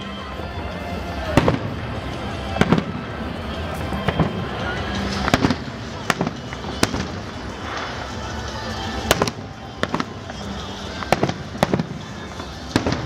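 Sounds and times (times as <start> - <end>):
fireworks bangs: 1.0 - 13.0.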